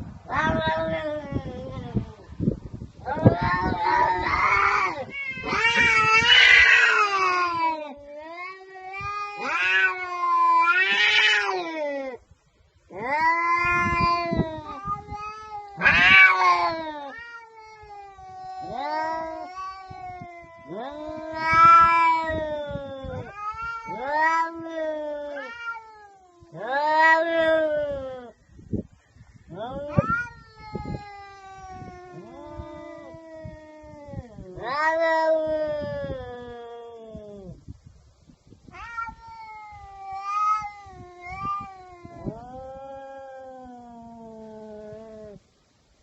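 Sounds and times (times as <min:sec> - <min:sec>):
cats yowling: 0:00.2 - 0:02.3, 0:03.0 - 0:12.2, 0:12.9 - 0:28.4, 0:29.5 - 0:37.6, 0:38.7 - 0:45.4.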